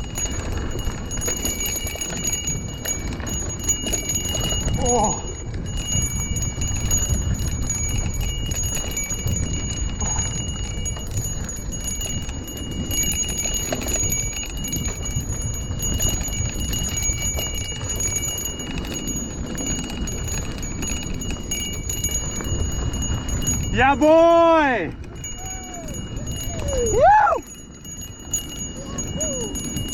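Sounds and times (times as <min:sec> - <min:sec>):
wind on microphone: 0:00.0 - 0:29.9.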